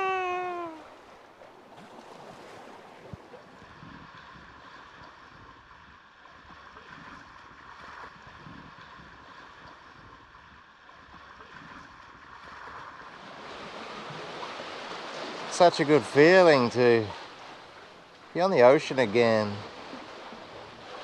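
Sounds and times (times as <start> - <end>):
sea water washing along hull: 0.0 - 21.0.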